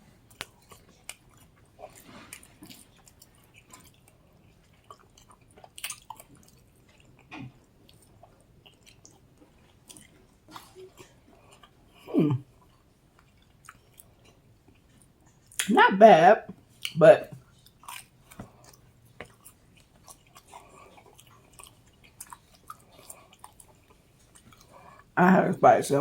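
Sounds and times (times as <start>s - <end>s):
chewing and mouth clicks: 0.2s - 15.7s, 16.5s - 25.2s.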